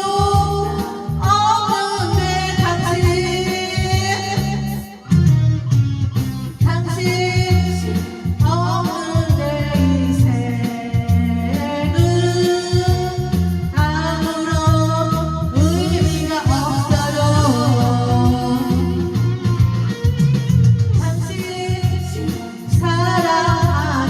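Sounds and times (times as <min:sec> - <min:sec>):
person singing: 0:00.0 - 0:05.1, 0:06.6 - 0:19.5, 0:21.0 - 0:24.0
band with guitar and bass: 0:00.0 - 0:24.0.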